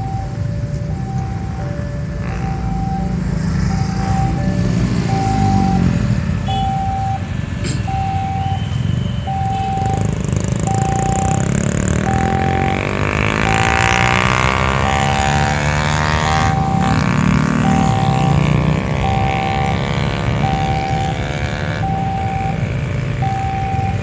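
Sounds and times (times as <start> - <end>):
level crossing alarm beeping: 0.0 - 24.0
road traffic rumble: 0.0 - 24.0
vehicle engine passing: 1.0 - 6.4, 9.3 - 23.9.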